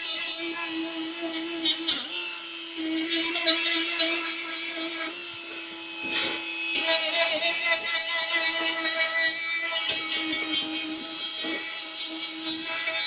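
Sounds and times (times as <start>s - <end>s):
electric buffer whining: 0.0s - 13.0s.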